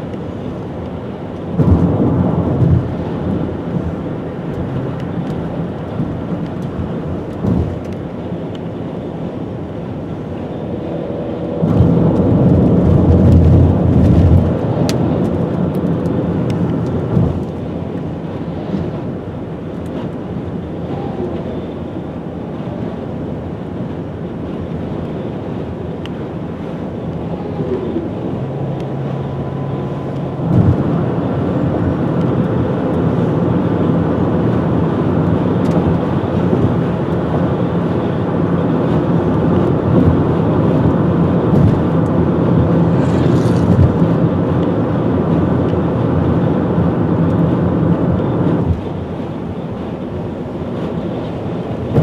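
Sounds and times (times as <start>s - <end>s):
car road and wind noise: 0.0s - 52.0s
engine and tyre hum: 0.0s - 52.0s.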